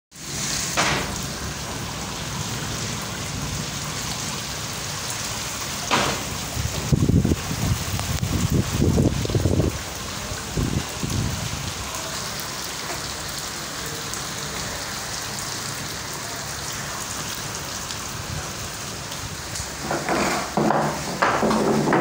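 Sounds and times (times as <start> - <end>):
heavy rain falling: 0.1 - 22.0.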